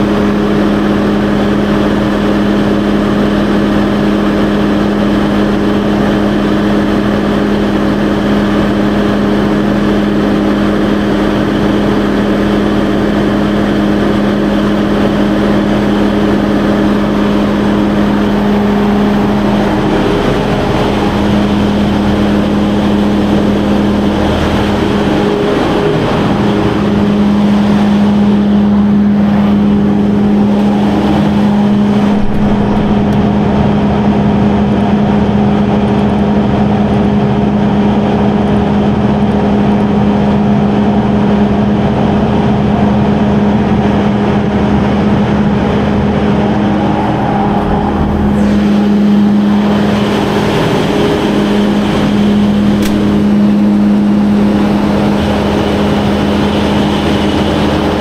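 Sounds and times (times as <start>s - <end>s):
diesel generator humming: 0.0s - 58.0s.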